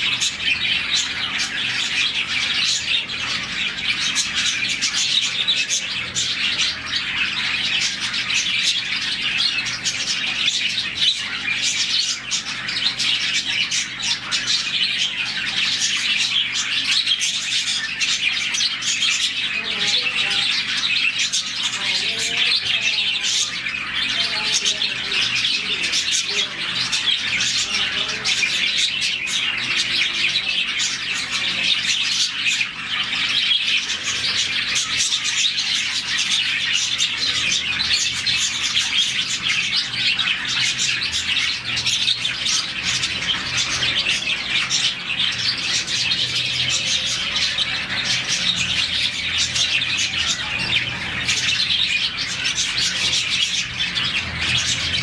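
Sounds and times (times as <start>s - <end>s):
budgies chirping and chattering: 0.0s - 55.0s.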